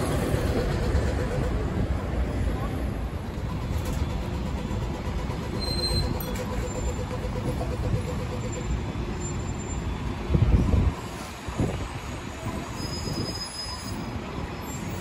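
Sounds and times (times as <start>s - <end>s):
buses running: 0.0s - 15.0s
city street traffic: 0.0s - 15.0s.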